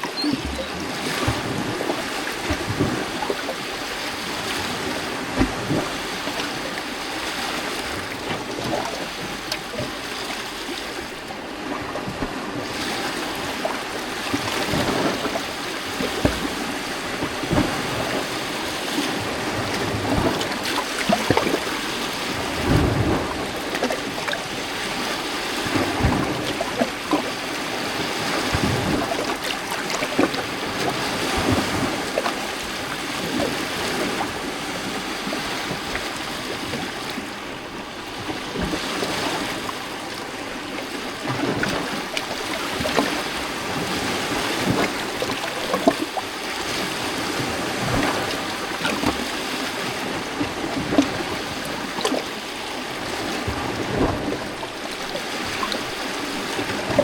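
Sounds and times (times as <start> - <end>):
lake waves washing: 0.0 - 57.0
waves slapping rocks: 0.0 - 57.0.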